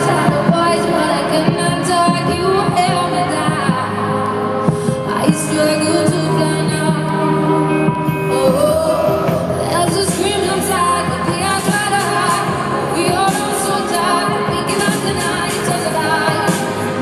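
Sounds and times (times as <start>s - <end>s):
live pop concert music: 0.0s - 17.0s
person singing: 0.0s - 17.0s.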